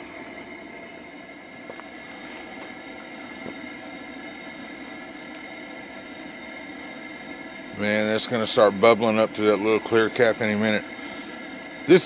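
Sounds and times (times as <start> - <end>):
camp stove burning: 0.0 - 12.0.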